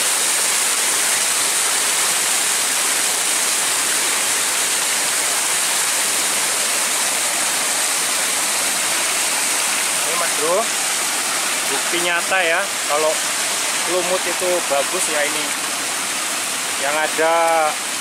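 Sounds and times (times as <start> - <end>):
water pouring over a weir: 0.0 - 18.0.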